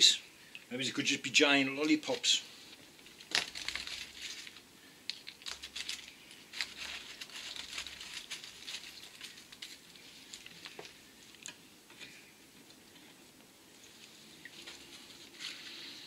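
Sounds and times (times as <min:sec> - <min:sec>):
faint crinkling and clicks: 0:02.7 - 0:16.0.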